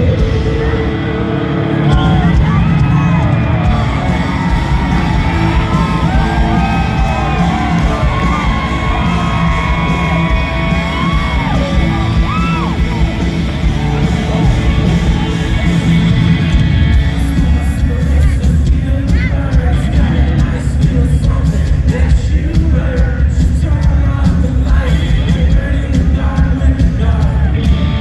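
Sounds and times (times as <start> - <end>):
crowd yelling and whooping: 0.0 - 23.9
live rock band playing: 0.0 - 28.0.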